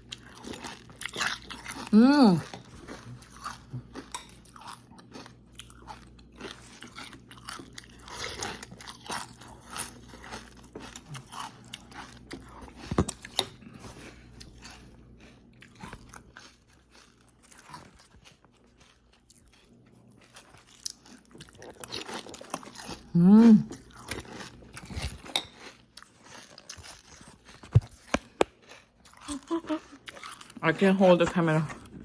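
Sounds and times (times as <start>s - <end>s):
crunching and chewing cereal: 0.0s - 32.0s.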